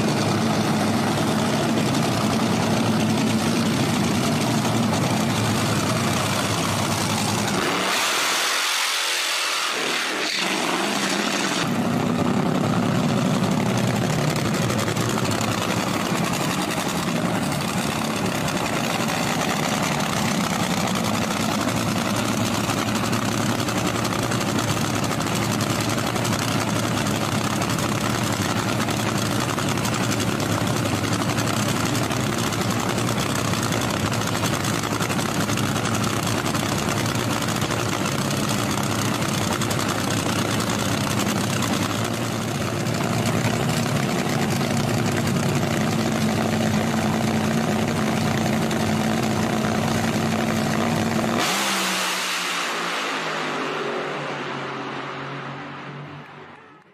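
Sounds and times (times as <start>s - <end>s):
dragster engine idling: 0.0s - 8.6s, 9.9s - 51.4s.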